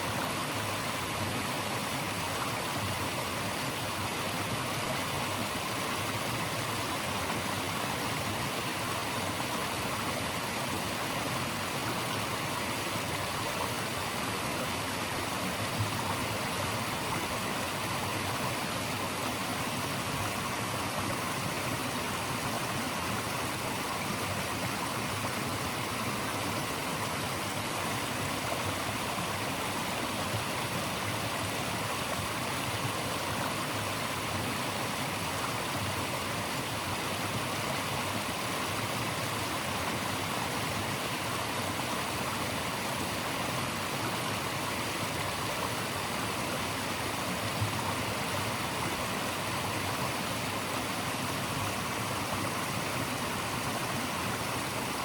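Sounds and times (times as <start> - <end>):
water rushing steadily: 0.0 - 55.0.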